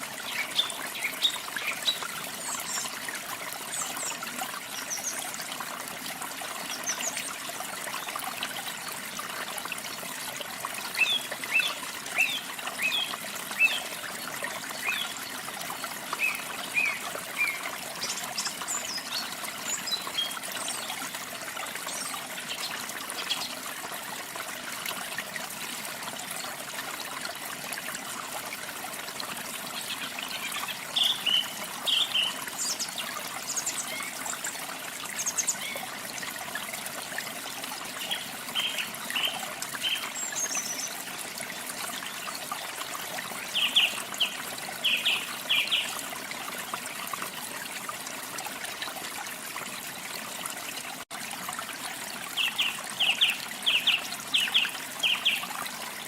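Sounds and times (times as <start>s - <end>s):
water rushing in stream: 0.0s - 56.0s.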